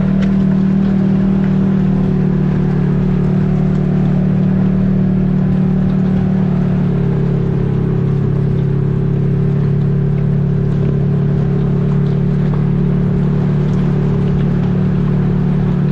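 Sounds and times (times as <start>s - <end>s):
vehicle engine droning: 0.0s - 15.9s.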